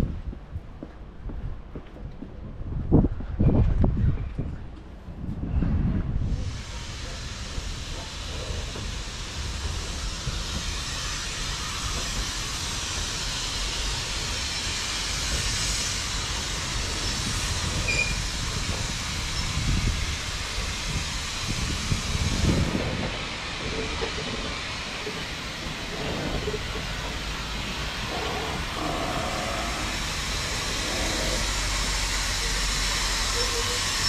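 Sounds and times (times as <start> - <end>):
locomotive engine and wheels rumbling: 0.0 - 34.0
steam hissing: 6.3 - 34.0.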